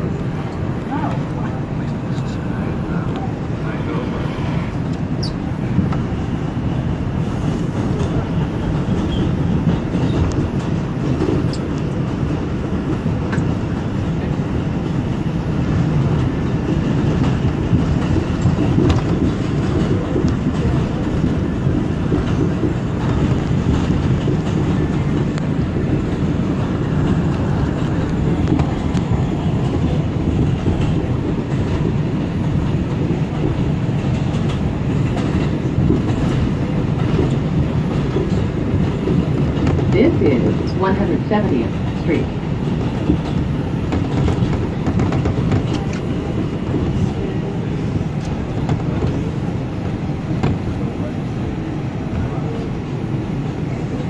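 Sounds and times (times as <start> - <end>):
subway train wheels on rail: 0.0 - 54.0.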